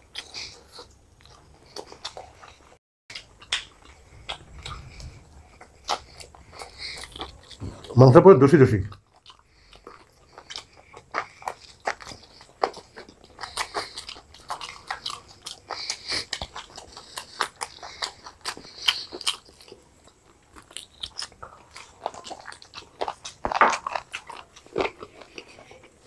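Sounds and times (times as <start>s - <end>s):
people crunching and chewing food: 0.0s - 26.0s.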